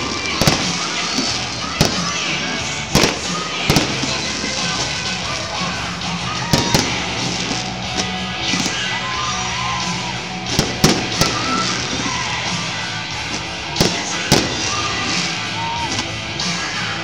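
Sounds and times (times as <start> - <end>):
background music: 0.0 - 17.0
fireworks bursting: 0.0 - 17.0.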